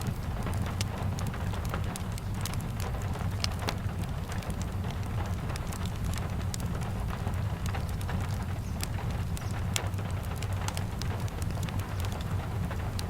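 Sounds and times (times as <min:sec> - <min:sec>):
sharp ticks and crackles: 0:00.0 - 0:13.0
steady rain: 0:00.0 - 0:13.0.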